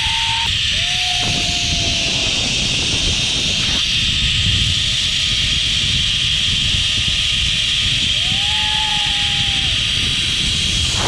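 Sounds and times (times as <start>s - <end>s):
pulleys running along cable: 0.0s - 10.9s
wind buffeting microphone: 0.0s - 11.0s.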